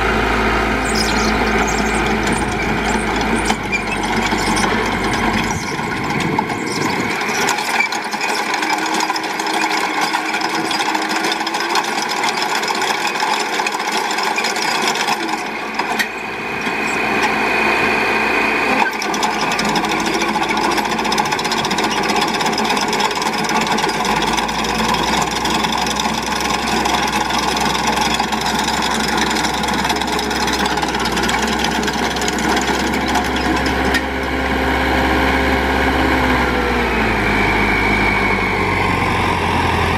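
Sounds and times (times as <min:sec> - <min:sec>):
backhoe engine running: 0:00.0 - 0:39.9
rasping mechanical grinding: 0:00.7 - 0:39.8.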